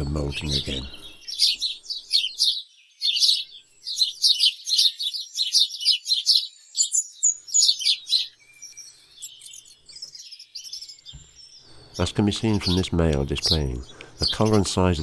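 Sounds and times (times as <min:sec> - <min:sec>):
sparrow chirping: 0:00.0 - 0:15.0.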